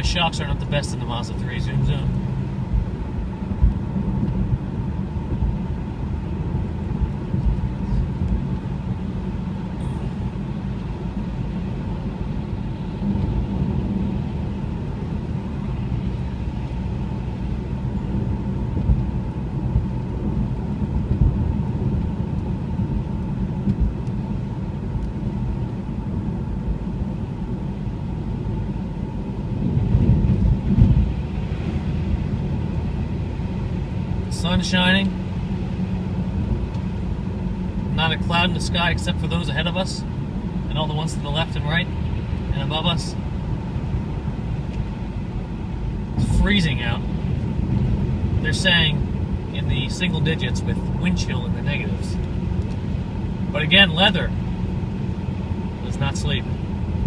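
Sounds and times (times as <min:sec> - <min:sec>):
car road noise on wet road: 0:00.0 - 0:57.0.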